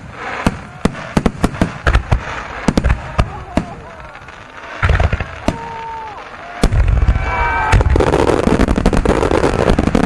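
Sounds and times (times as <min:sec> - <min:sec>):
firework crackling: 0:00.0 - 0:10.0
firework shells bursting: 0:00.0 - 0:10.0.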